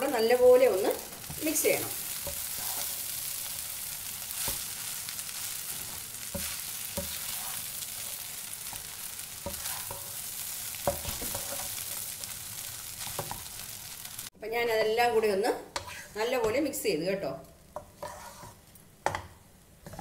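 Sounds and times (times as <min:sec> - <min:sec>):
rice sizzling in a pan: 0:00.0 - 0:14.3, 0:17.6 - 0:20.0.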